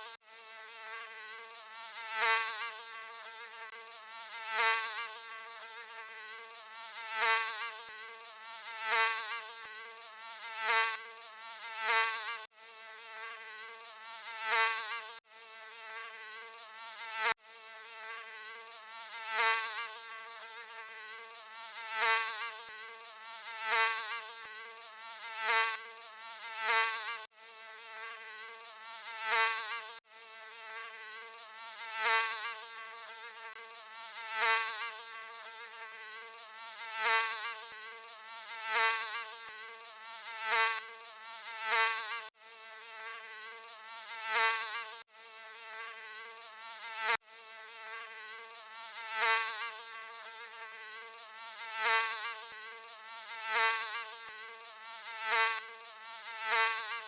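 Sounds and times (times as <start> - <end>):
mosquito wing buzz: 0.0 - 57.0.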